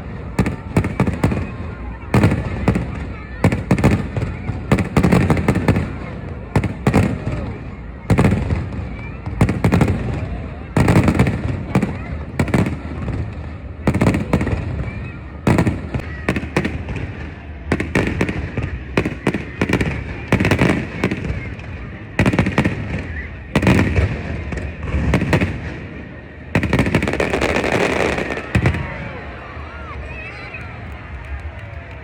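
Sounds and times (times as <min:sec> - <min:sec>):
fireworks exploding: 0:00.0 - 0:31.9.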